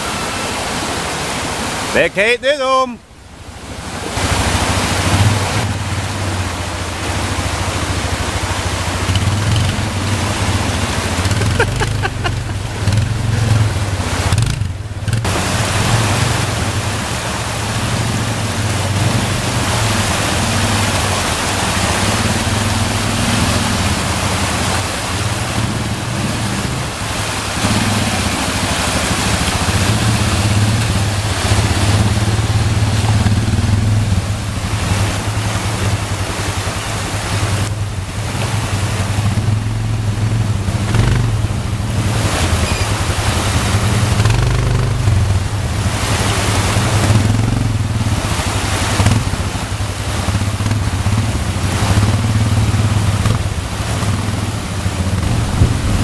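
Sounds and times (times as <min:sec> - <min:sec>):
constant rushing noise: 0:00.0 - 0:56.0
vehicle engine humming: 0:00.0 - 0:56.0.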